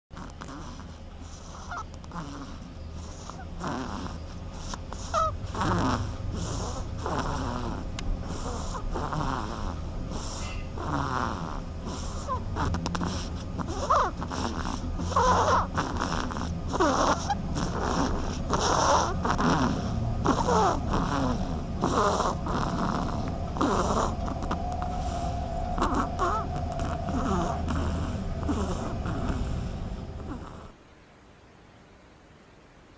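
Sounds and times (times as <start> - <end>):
duckling snoring wheezy breaths: 0.1 - 30.8.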